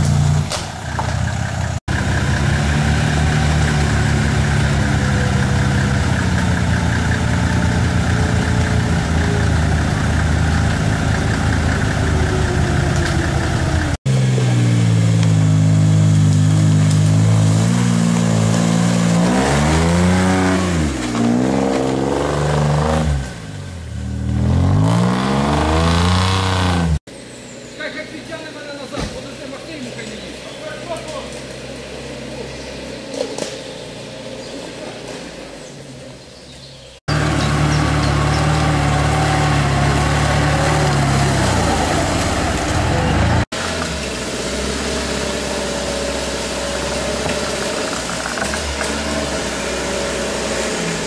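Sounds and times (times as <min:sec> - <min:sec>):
buggy engine revving: 0:00.0 - 0:51.0.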